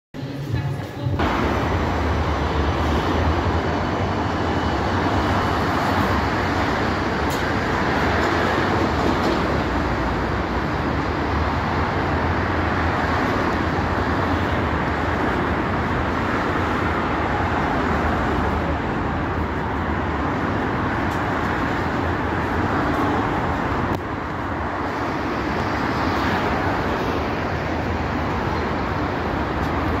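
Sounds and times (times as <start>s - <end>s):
road traffic passing: 0.2s - 30.0s
tram running on track: 0.2s - 30.0s.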